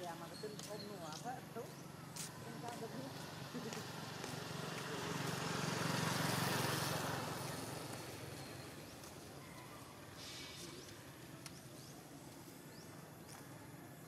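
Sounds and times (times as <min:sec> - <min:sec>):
motor vehicle passing: 0:00.5 - 0:13.2.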